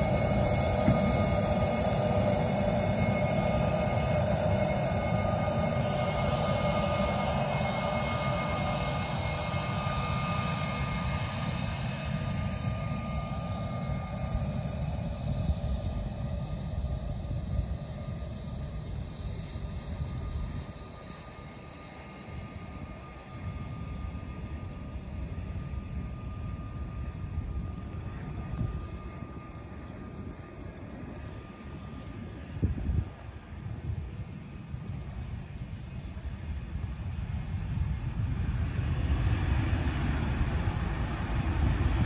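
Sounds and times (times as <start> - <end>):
wind rumble on microphone: 0.0 - 21.1, 25.4 - 42.0
jet engines whining: 0.0 - 42.0.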